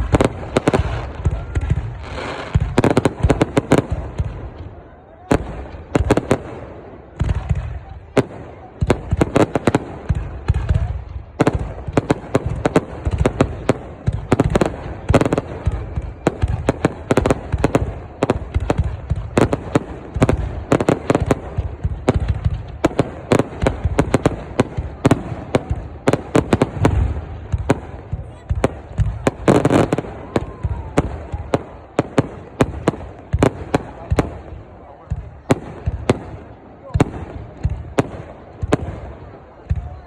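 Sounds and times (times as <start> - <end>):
deep firework booms: 0.0 - 40.0
fireworks bangs and pops: 0.0 - 40.0.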